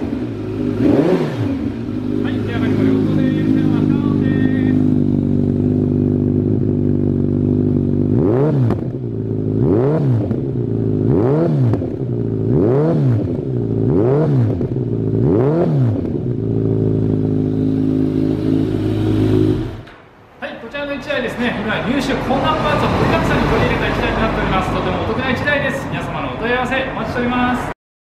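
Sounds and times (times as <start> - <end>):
motorcycle engine revving: 0.0 - 20.1, 21.8 - 25.8.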